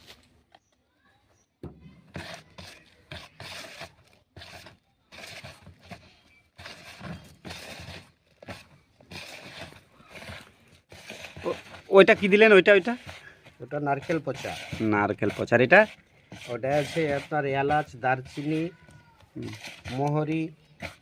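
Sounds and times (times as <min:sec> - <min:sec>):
hands mixing dry powder: 0:02.0 - 0:21.0.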